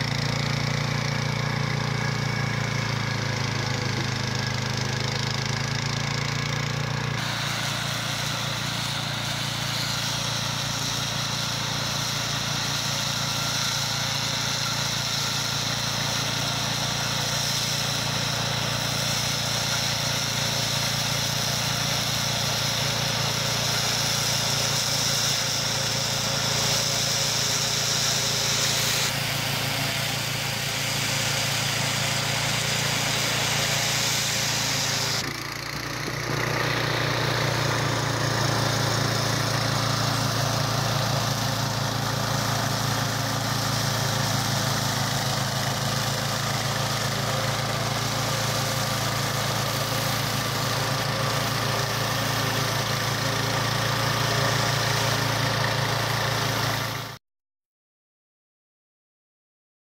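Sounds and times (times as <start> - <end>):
lawn mower engine cutting grass: 0.0 - 57.2.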